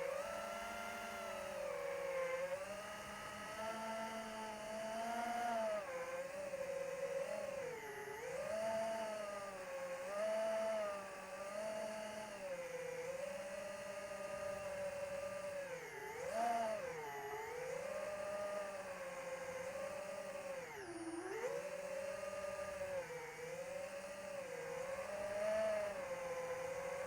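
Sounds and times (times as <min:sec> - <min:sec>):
model plane motor whining: 0:00.0 - 0:27.0.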